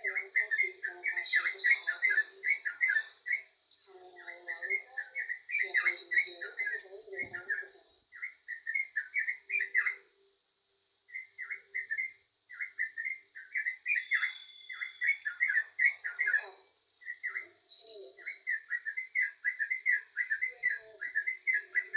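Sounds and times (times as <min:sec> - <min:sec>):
bird singing bubbly chatter: 0:00.0 - 0:10.1, 0:11.1 - 0:21.9.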